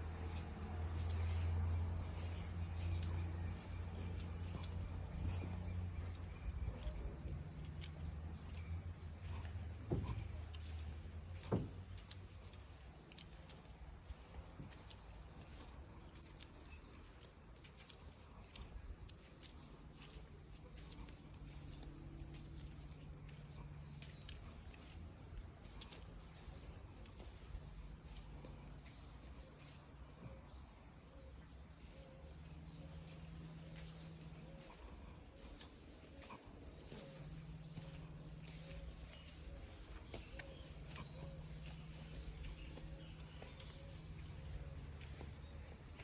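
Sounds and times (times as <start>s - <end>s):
birds chirping: 0.0s - 46.0s
low steady hum: 0.0s - 46.0s.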